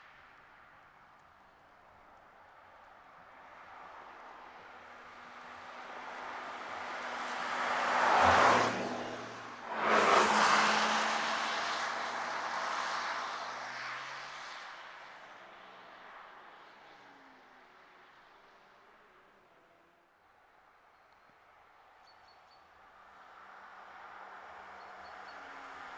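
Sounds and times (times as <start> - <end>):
car passing with tyre and wind rush: 0.0 - 25.9.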